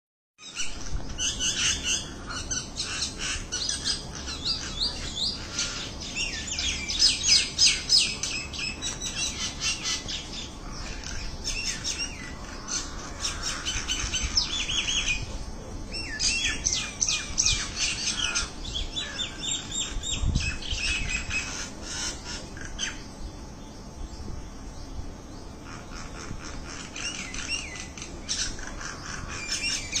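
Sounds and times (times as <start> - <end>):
small birds chirping: 0.4 - 30.0.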